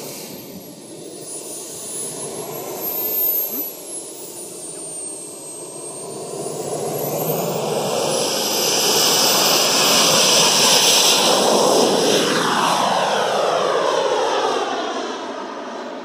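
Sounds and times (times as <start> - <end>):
model jet turbines: 0.0 - 16.0.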